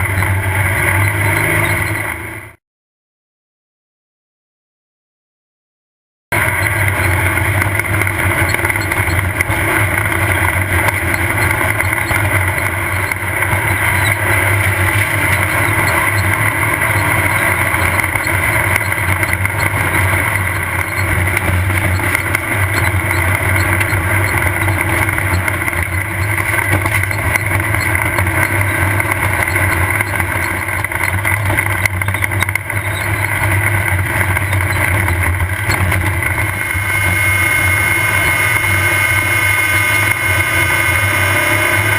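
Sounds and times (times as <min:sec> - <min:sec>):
buggy engine droning: 0:00.0 - 0:02.6, 0:06.3 - 0:41.9.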